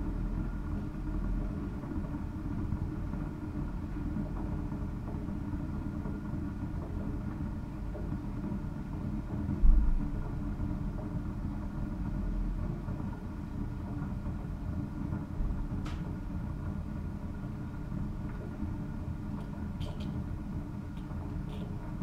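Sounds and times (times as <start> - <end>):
coffee machine heating rumble: 0.0 - 22.0.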